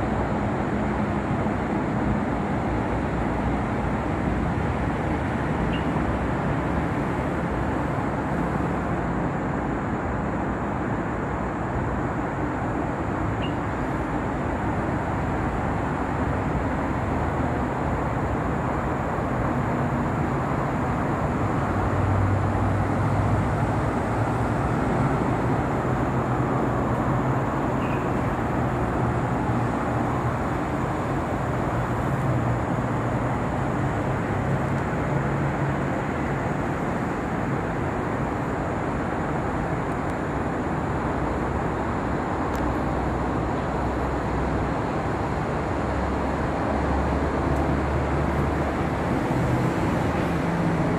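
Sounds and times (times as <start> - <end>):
low engine drone: 0.0 - 50.9
road traffic hum: 0.0 - 50.9.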